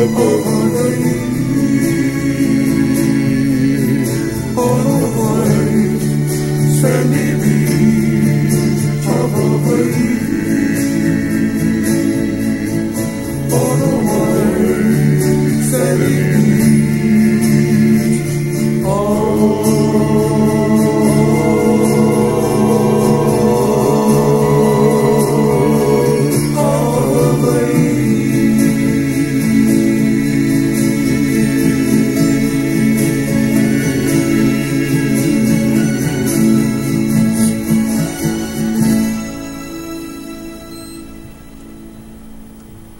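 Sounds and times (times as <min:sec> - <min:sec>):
man singing: 0:00.0 - 0:38.1
held chords backing: 0:00.0 - 0:42.9.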